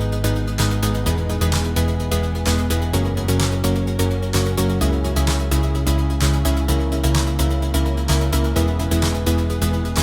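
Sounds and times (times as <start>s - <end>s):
electronic music with bass and synth: 0.0s - 10.0s.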